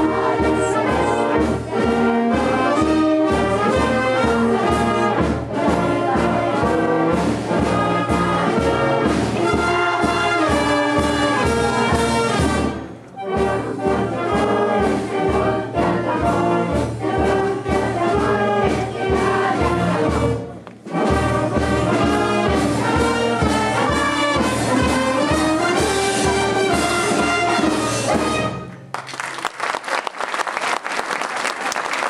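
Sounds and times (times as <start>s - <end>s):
brass band playing a march: 0.0s - 28.9s.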